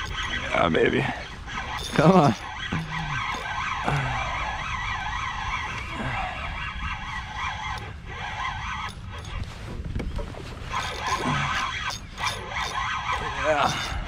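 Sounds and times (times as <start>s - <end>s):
fishing reel whirring: 0.0s - 9.5s, 10.6s - 14.0s.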